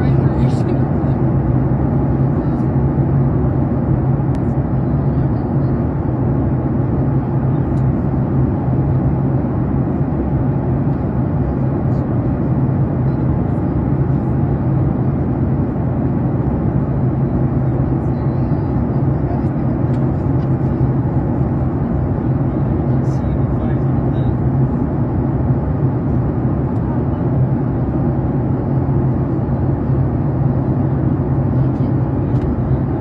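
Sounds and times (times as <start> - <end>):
engine and airflow rush: 0.0 - 33.0.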